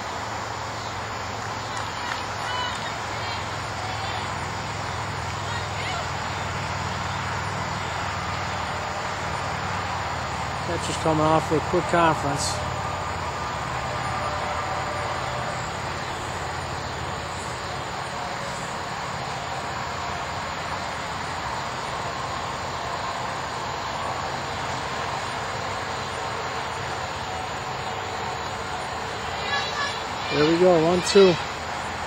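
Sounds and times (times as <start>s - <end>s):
low rumbling background noise: 0.0s - 32.0s.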